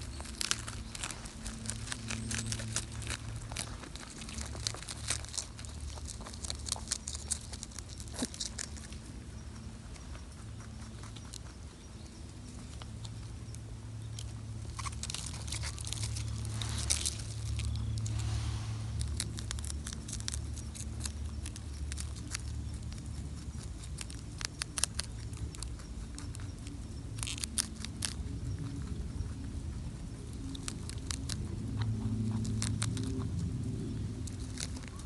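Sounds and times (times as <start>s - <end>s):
rabbits crunching leaves: 0.0s - 35.0s
steady low rumble: 0.0s - 35.0s.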